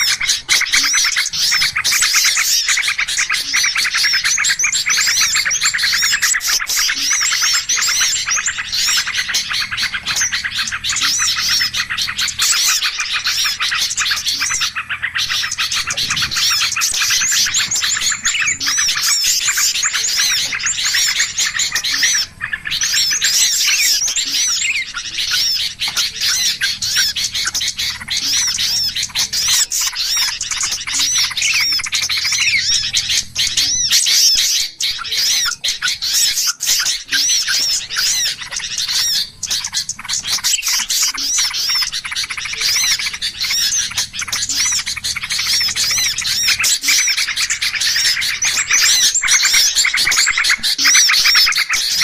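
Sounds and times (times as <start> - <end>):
flock of small birds chattering: 0.0 - 52.0.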